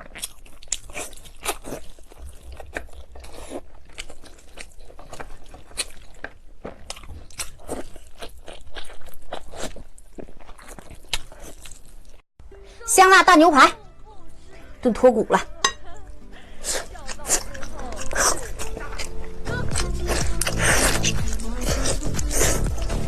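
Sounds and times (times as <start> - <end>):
wet chewing: 0.0 - 12.2, 16.4 - 23.0.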